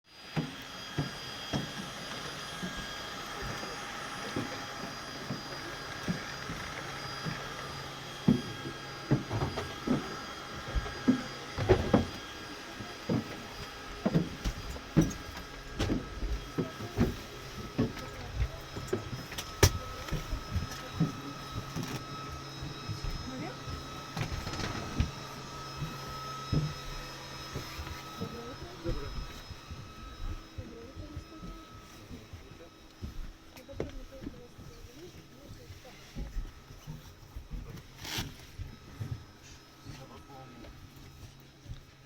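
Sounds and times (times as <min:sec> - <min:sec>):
aircraft whine: 0:00.1 - 0:36.0.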